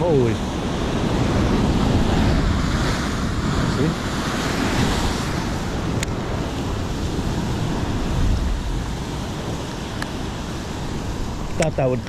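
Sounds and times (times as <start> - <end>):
surf breaking on rocks: 0.0 - 12.0
wind rumbling on microphone: 0.0 - 12.0.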